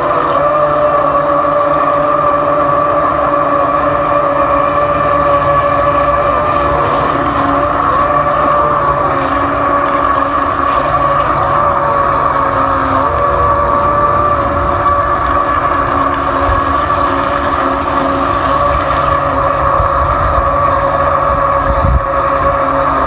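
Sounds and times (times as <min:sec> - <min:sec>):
small motor whining: 0:00.0 - 0:23.0.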